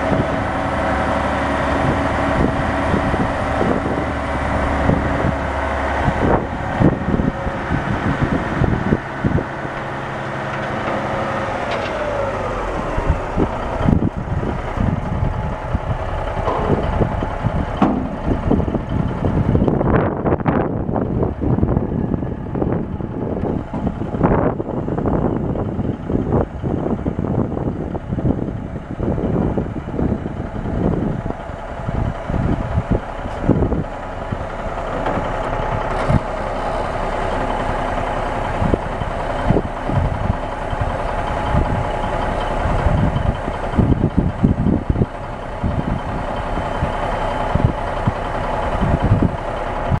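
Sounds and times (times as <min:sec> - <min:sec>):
dump truck diesel engine running: 0:00.0 - 0:50.0
wind buffeting microphone: 0:00.0 - 0:50.0.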